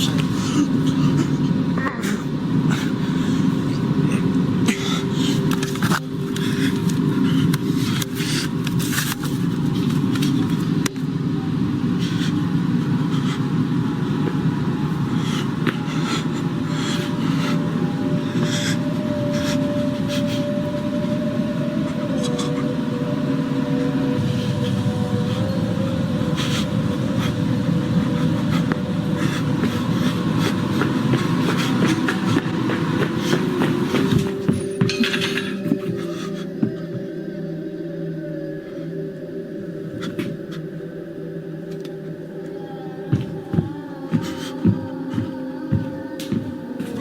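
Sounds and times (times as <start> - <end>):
loud low rumbling: 0.0 - 47.0.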